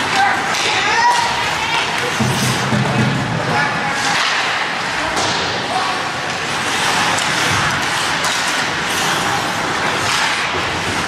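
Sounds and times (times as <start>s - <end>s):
knocks of sticks and puck: 0.0s - 11.0s
skates scraping on ice: 0.0s - 11.0s
spectators' voices: 0.0s - 11.0s.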